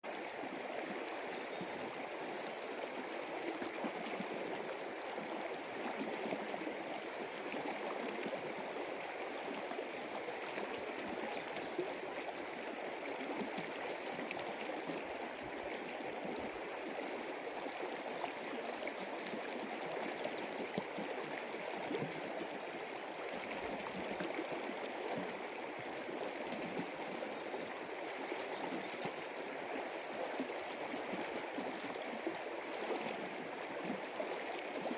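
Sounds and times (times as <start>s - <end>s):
stream flowing and gurgling: 0.0s - 34.9s.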